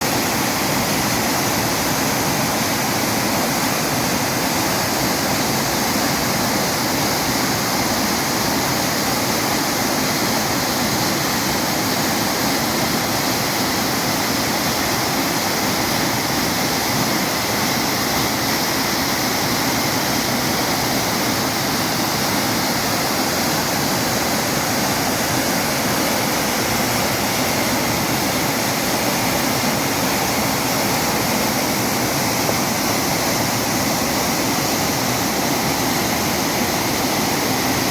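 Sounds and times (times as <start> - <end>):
waterfall pouring and splashing: 0.0 - 37.9.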